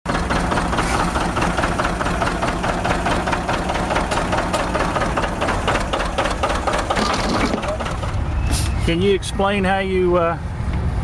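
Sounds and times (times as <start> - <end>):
heavy engine idling: 0.1 - 9.6.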